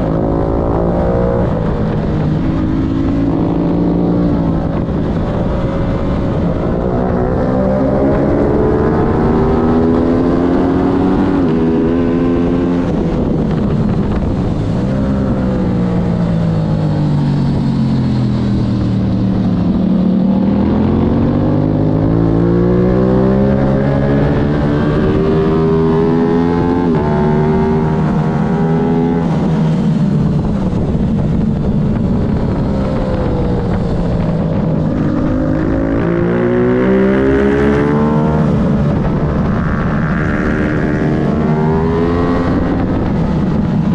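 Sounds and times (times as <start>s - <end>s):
racing motorcycle engine: 0.0s - 43.9s
wind rush: 0.0s - 43.9s.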